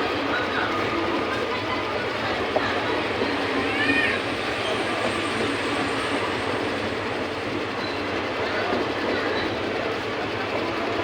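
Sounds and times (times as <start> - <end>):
train running on track: 0.0 - 11.0.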